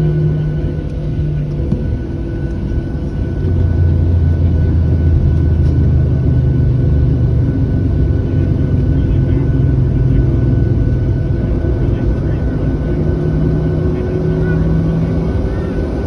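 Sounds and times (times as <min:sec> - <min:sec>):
jet engine cabin drone: 0:00.0 - 0:16.0.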